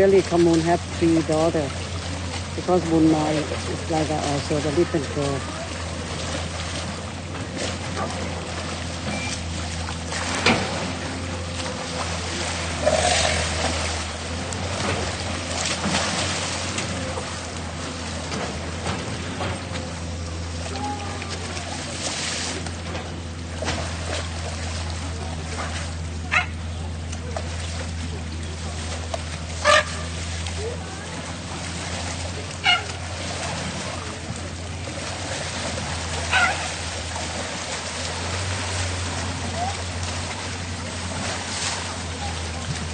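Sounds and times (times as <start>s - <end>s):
elephants splashing in river: 0.0s - 42.9s
steady low rumble: 0.0s - 42.9s.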